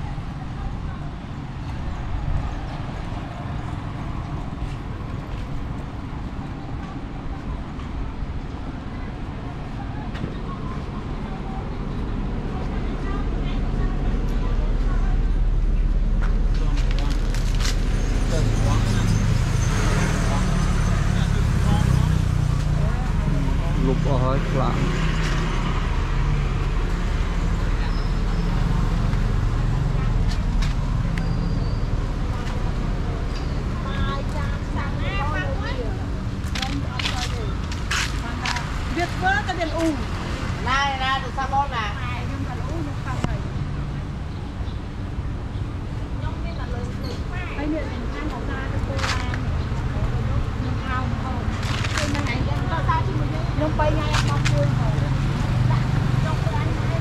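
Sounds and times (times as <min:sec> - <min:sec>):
road vehicle low rumble: 0:00.0 - 0:57.0.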